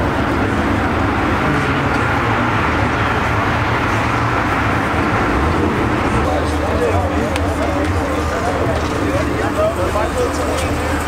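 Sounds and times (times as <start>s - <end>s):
car engines rumbling: 0.0s - 11.0s
traffic noise: 0.0s - 11.0s.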